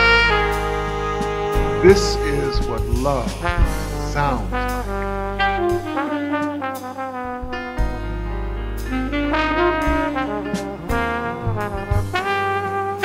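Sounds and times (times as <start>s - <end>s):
bass line: 0.0s - 13.0s
horn playing jazz melody: 0.0s - 13.0s.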